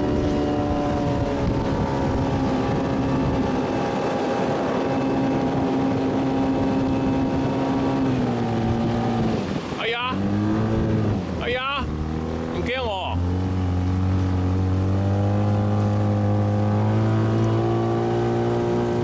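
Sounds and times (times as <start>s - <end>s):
motor engine droning: 0.0s - 19.0s.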